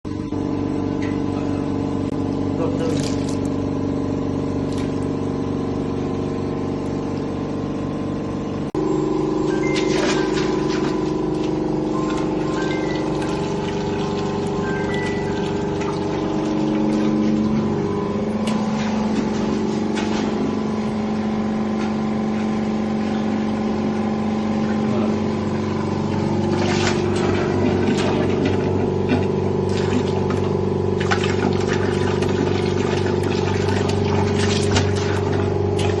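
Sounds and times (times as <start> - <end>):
electric pump humming: 0.0 - 36.0.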